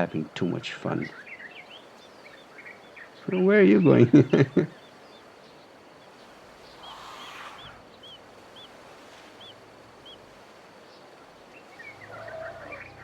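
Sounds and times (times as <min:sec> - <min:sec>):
bird calling in the distance: 0:00.0 - 0:13.0.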